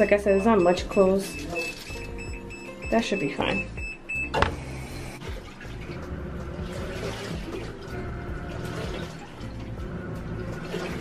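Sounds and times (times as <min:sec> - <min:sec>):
washing machine hum: 0:00.0 - 0:11.0
washing machine water churning: 0:00.0 - 0:11.0.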